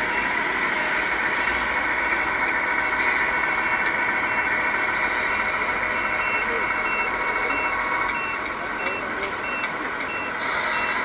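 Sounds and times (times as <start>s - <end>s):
model truck diesel engine sound: 0.0s - 11.0s.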